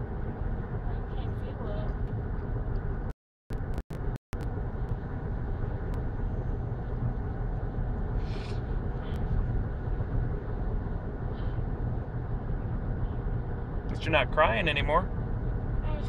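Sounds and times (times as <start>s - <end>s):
car cabin road and engine noise: 0.0s - 16.0s.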